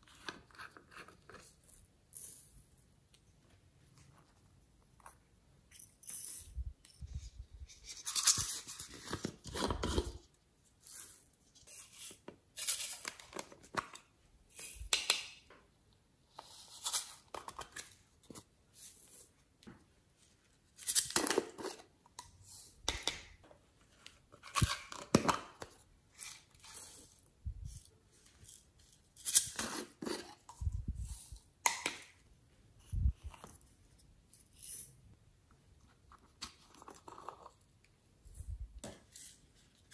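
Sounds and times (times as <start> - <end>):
plastic cups rustling and clicking: 0.0 - 15.4, 16.4 - 39.9.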